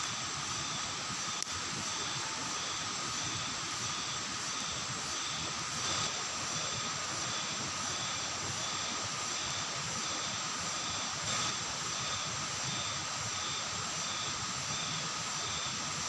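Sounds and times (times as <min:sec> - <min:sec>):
pulsing high insect note: 0:00.0 - 0:15.7
forest insects droning: 0:00.0 - 0:16.0.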